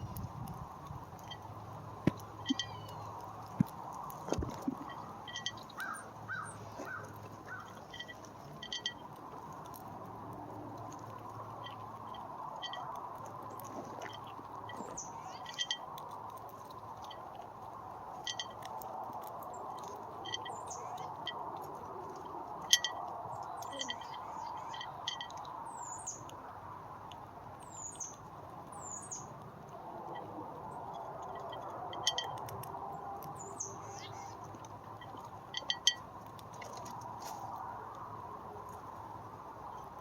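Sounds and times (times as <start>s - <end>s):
small animals chirping and clicking: 0.0s - 40.0s.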